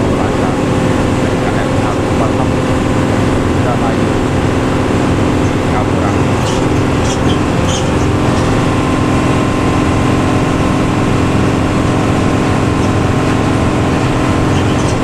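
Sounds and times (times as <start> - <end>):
bus diesel engine and exhaust: 0.0 - 15.0.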